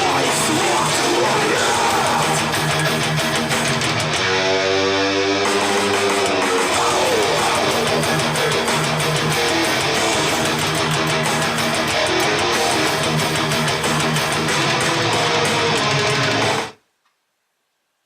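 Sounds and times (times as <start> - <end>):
rock music with electric guitar: 0.0 - 16.8.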